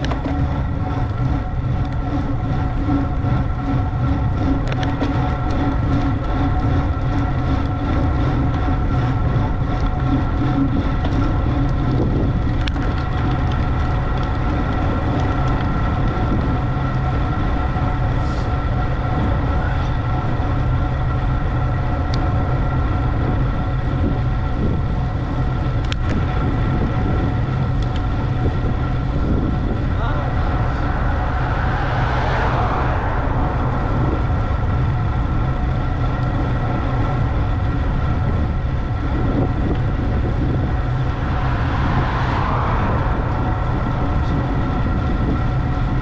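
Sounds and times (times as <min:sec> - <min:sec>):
steady hum: 0:00.0 - 0:46.0
wind and road rumble: 0:00.0 - 0:46.0.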